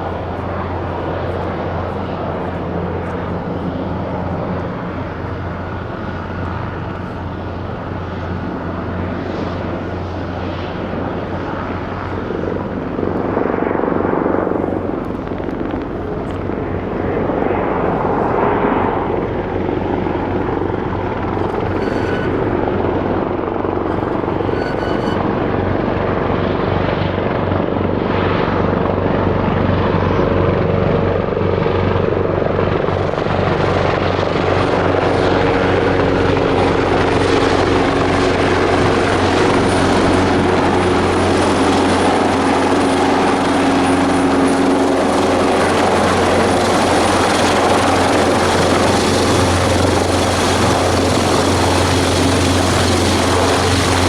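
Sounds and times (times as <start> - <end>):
helicopter rotor beat: 0.0 - 54.0
high turbine whine: 0.0 - 54.0.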